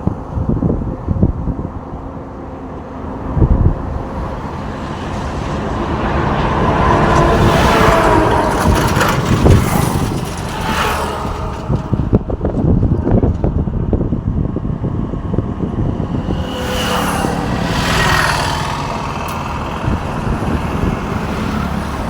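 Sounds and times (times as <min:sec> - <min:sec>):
truck passing: 0:00.0 - 0:22.0.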